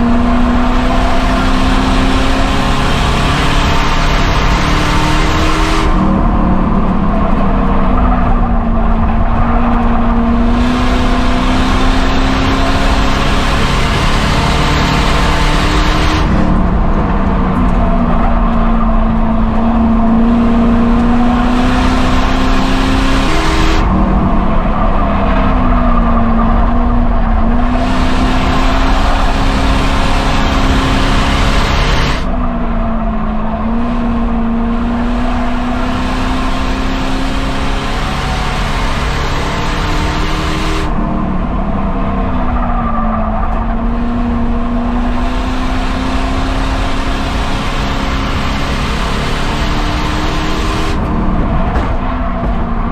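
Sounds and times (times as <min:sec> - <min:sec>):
race car engine running hard: 0:00.0 - 0:52.9.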